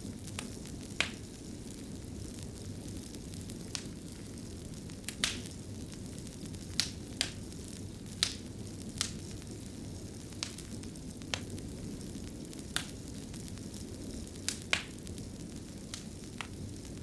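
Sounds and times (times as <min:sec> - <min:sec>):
fire crackling pops: 0:00.0 - 0:17.0.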